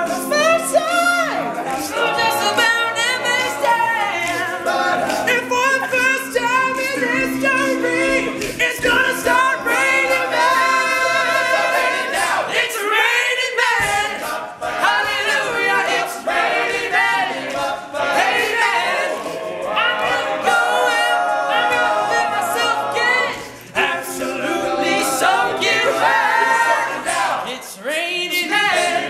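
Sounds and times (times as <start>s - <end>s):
male a cappella group singing: 0.0s - 29.0s.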